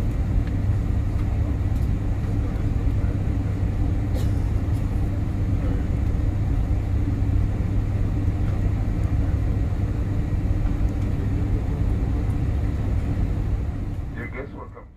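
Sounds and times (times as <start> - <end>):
airliner cabin rumble: 0.0 - 14.9.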